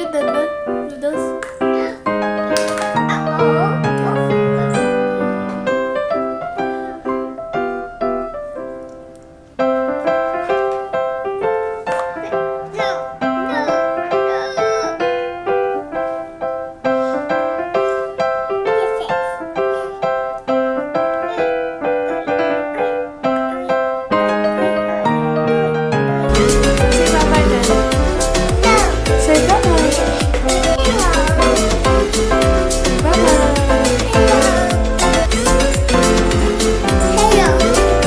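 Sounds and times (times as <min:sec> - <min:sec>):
piano music with bright notes: 0:00.0 - 0:38.0.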